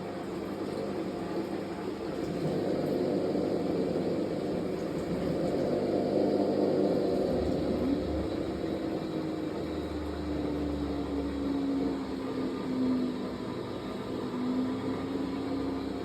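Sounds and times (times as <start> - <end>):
washing machine motor whine: 0.0 - 16.0.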